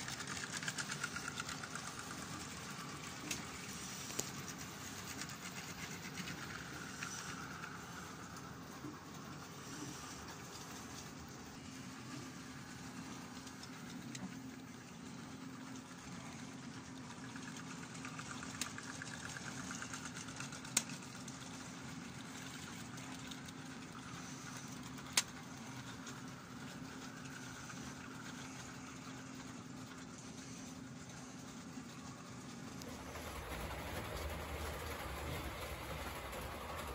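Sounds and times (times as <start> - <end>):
model train motor hum: 0.0 - 36.9.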